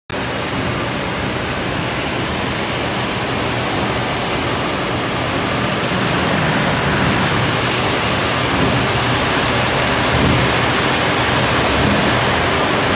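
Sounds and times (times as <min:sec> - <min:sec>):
woodworking machine running: 0:00.2 - 0:12.9.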